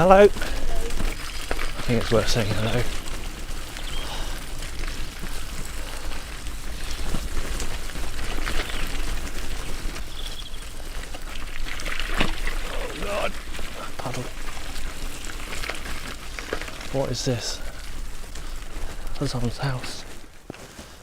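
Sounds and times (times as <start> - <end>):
bicycle tyres rolling on mud: 0.0 - 21.0.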